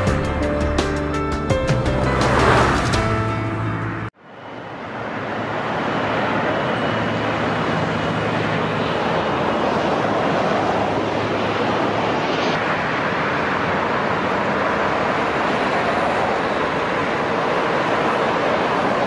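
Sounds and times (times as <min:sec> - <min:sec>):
airfield ambience roar: 0:00.0 - 0:19.0.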